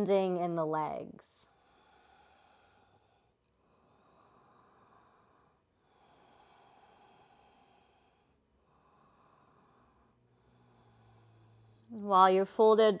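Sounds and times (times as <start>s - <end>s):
faint slow breathing: 1.4s - 11.9s.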